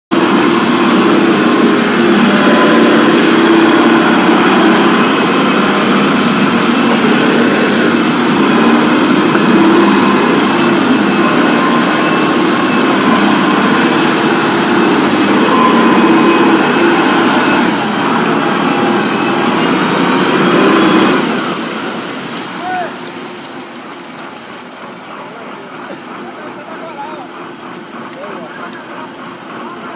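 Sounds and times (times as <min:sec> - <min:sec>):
small engine running: 0:00.1 - 0:29.9.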